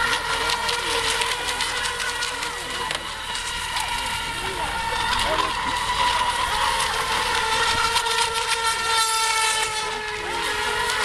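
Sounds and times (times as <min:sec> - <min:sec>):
hulls hissing on water: 0:00.0 - 0:11.0
rc boat motors whining: 0:00.0 - 0:11.0.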